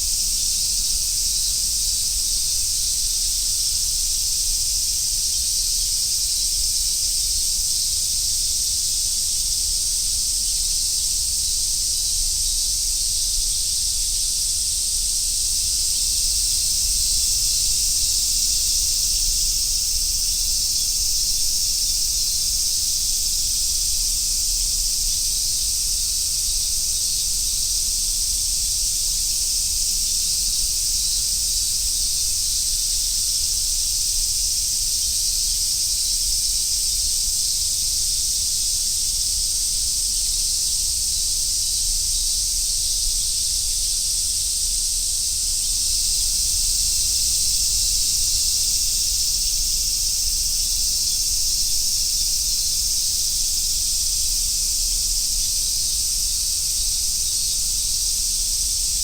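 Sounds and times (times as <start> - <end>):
cicadas chorusing: 0.0 - 59.0.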